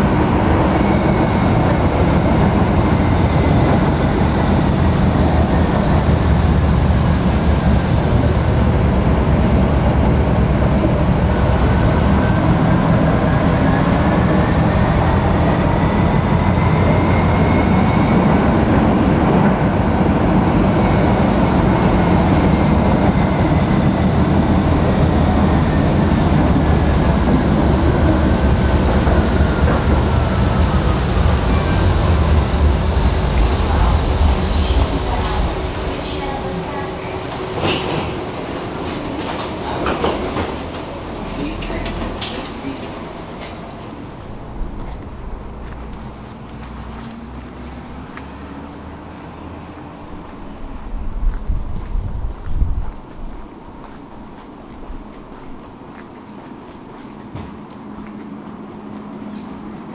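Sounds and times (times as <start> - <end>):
tram motor whine: 0.0 - 59.9
tram wheels rumbling on track: 0.0 - 59.9.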